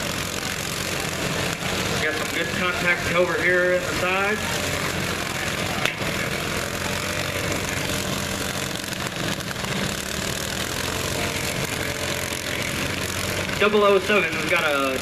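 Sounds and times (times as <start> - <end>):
riding lawn mower engines: 0.0 - 15.0.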